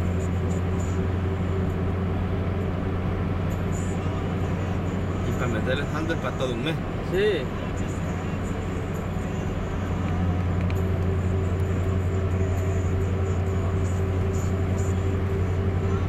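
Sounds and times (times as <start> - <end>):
car engine drone: 0.0 - 16.0
road noise: 0.0 - 16.0.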